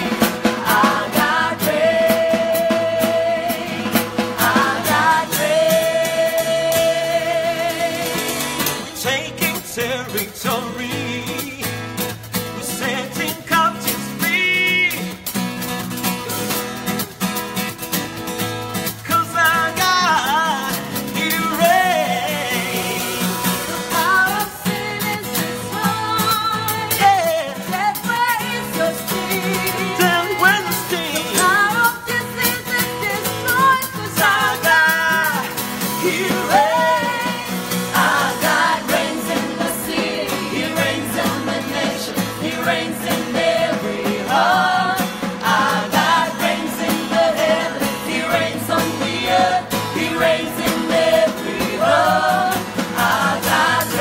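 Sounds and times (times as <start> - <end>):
group singing a worship song: 0.0 - 9.2, 19.6 - 54.0
strummed acoustic guitar: 0.0 - 54.0.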